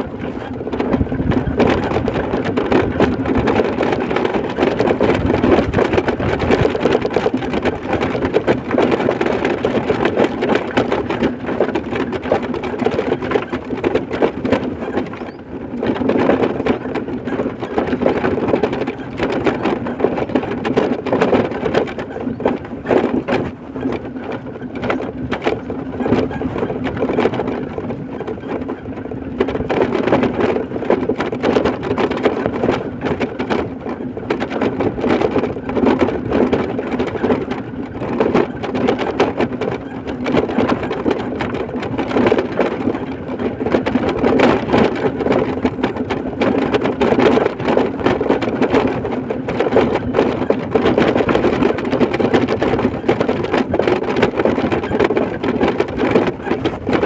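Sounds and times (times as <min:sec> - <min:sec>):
dense fast rattle: 0:00.0 - 0:57.0.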